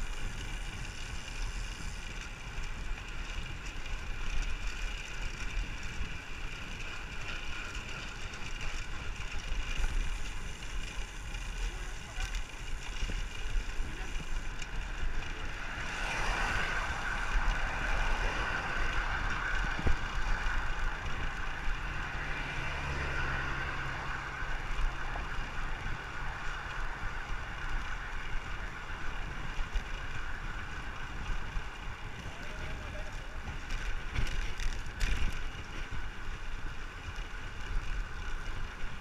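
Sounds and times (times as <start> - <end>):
road noise: 0.0 - 39.0.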